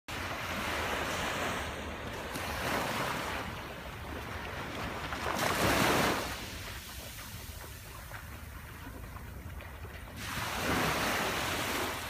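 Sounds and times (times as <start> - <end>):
small waves breaking on beach: 0.1 - 12.0.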